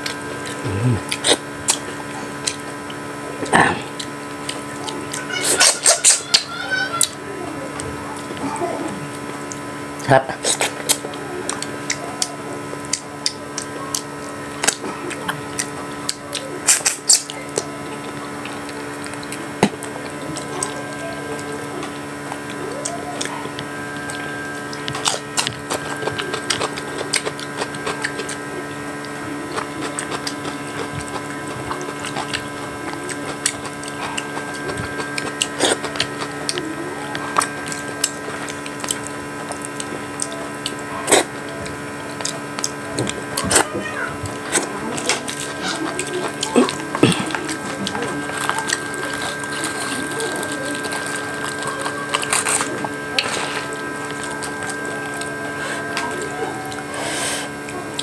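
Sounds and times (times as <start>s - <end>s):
chewing with wet mouth smacks: 0.0s - 56.9s, 57.6s - 58.0s
steady electrical hum: 0.0s - 58.0s.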